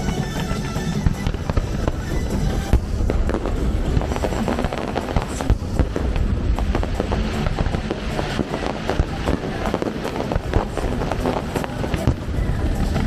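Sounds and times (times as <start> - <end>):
fireworks bangs and crackles: 0.0 - 13.0
low rumble: 0.0 - 13.0
music playing: 0.0 - 13.0.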